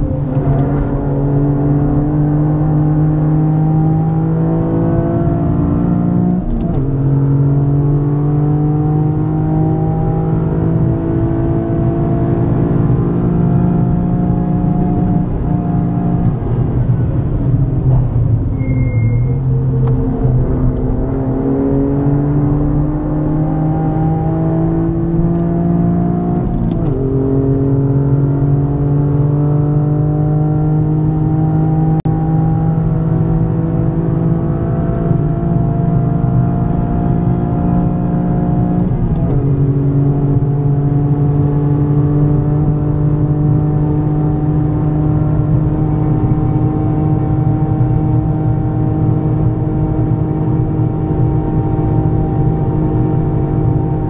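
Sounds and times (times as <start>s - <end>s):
car engine under hard driving: 0.0s - 54.0s.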